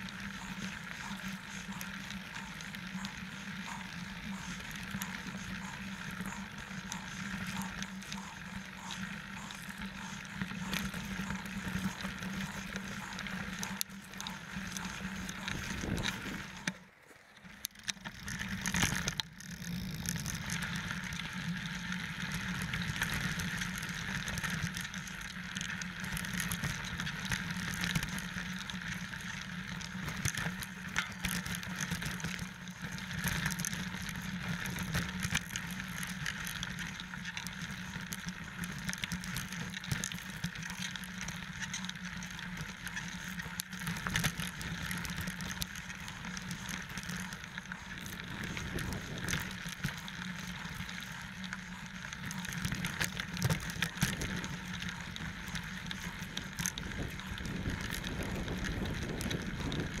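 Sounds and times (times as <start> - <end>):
bike rattling over bumps: 0.0 - 60.0
bike tyres on gravel: 0.0 - 60.0.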